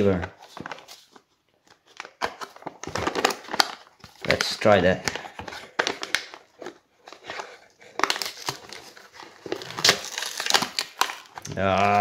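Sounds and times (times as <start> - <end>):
foil wrapper crinkling and tearing: 2.0 - 12.0.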